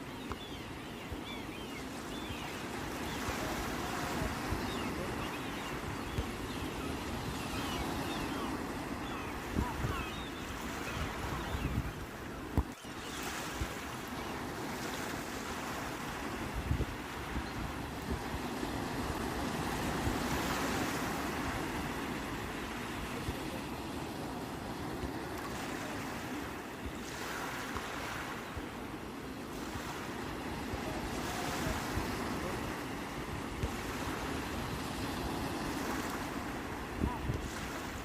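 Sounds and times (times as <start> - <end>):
sea waves washing on shore: 0.0 - 38.0.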